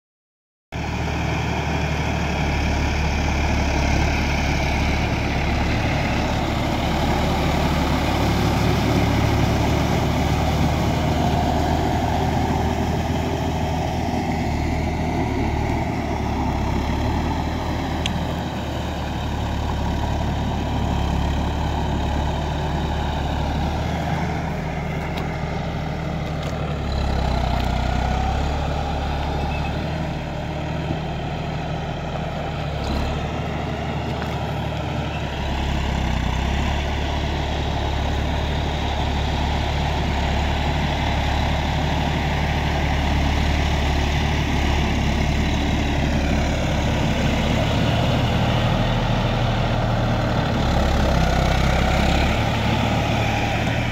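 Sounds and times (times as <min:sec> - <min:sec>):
tractor diesel engine running: 0:00.8 - 0:53.9.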